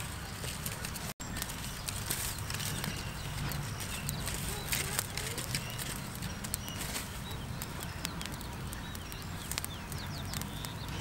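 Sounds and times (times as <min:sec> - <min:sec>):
birds chirping: 0:00.0 - 0:11.0
fire crackling and popping: 0:00.0 - 0:11.0
twigs snapping: 0:00.0 - 0:11.0.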